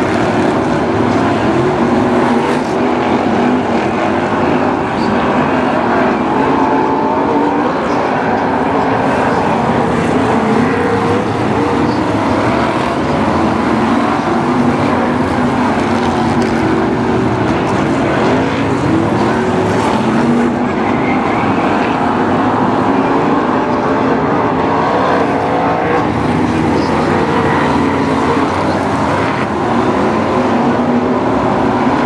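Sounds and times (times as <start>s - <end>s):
race car engines: 0.0s - 32.0s.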